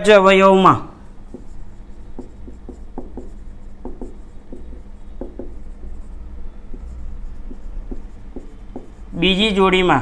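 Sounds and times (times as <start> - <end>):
steady low hum: 0.9 - 9.9
marker writing on whiteboard: 1.0 - 9.9.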